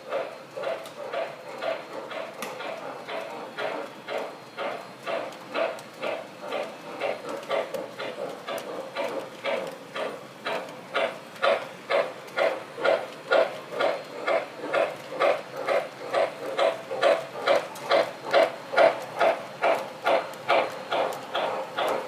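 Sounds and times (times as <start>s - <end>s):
model steam locomotive chuffing: 0.0s - 22.0s.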